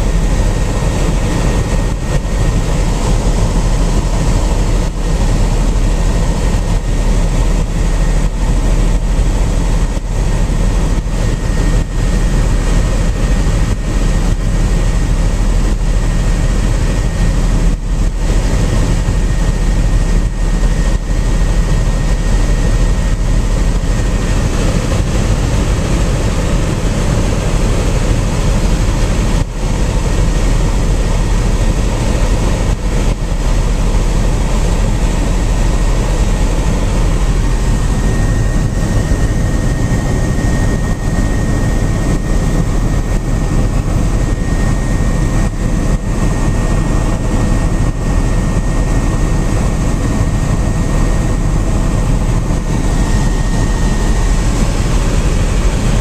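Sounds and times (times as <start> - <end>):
helicopter engine and rotor drone: 0.0 - 56.0
high-pitched whine: 0.0 - 56.0.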